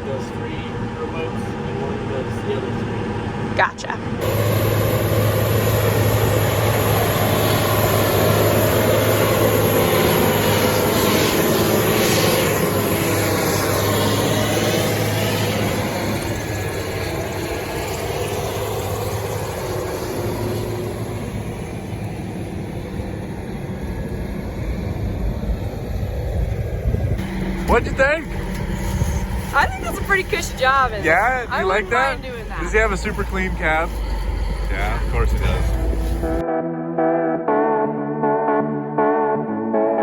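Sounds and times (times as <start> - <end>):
tractor engine running: 4.2 - 36.4.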